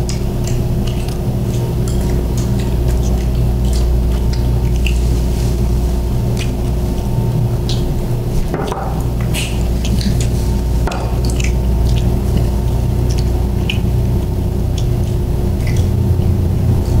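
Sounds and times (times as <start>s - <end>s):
steady low hum: 0.0s - 17.0s
wet chewing: 0.0s - 17.0s.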